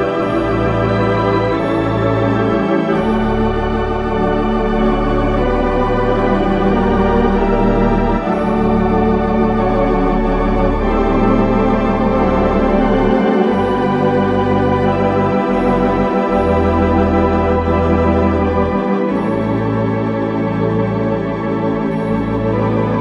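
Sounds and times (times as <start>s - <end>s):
pipe organ chords: 0.0s - 23.0s.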